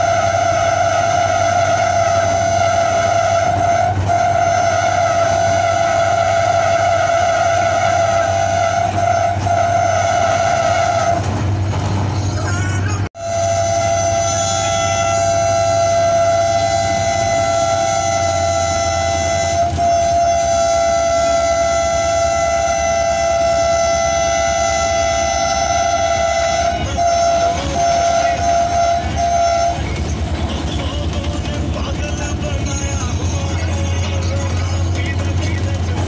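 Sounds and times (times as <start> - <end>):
locomotive air horn blasts: 0.0 - 11.5, 13.2 - 36.0
low engine rumble: 0.0 - 36.0.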